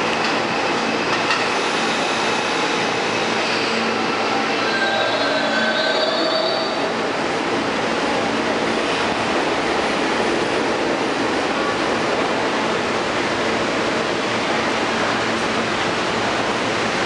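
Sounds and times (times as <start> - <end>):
subway station background noise: 0.0 - 17.0.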